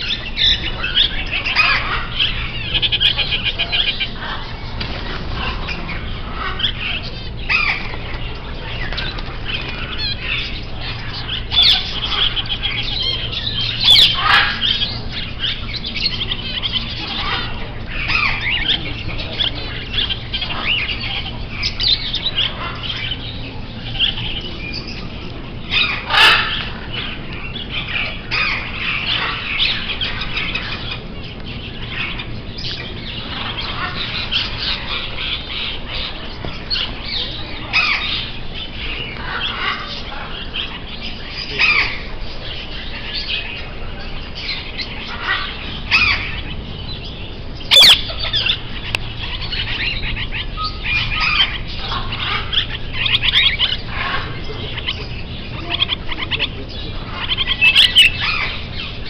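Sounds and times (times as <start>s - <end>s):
caged birds chirping and calling: 0.0s - 59.0s.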